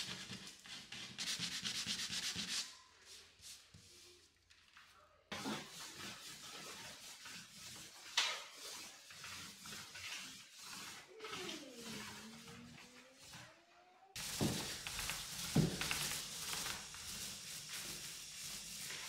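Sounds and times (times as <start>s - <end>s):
paint roller rubbing on wall: 0.0s - 4.4s, 5.3s - 19.0s.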